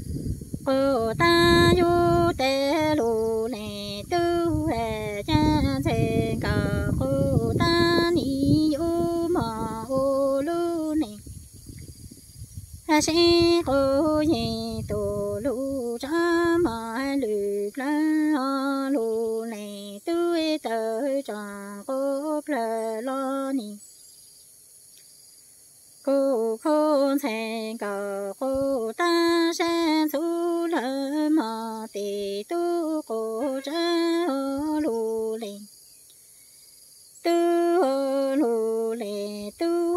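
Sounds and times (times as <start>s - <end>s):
woman singing unaccompanied: 0.0s - 24.1s, 25.9s - 36.0s, 36.7s - 39.9s.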